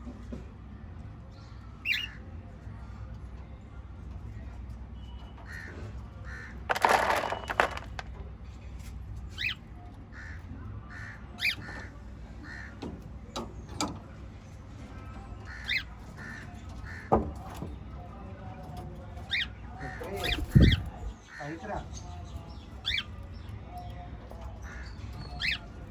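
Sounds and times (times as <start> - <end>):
soft bird chatter: 0.0 - 25.9.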